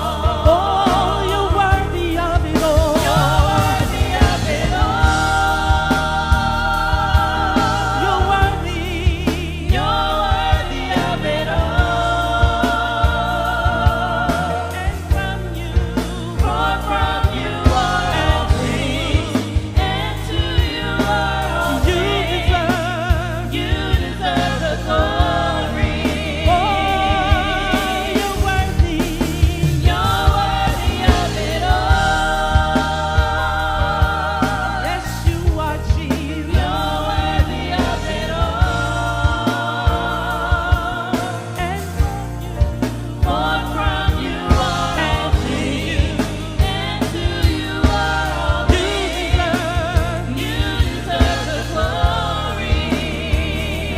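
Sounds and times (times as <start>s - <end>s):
band with drum strikes: 0.0s - 53.9s
people singing with vibrato: 0.0s - 53.9s.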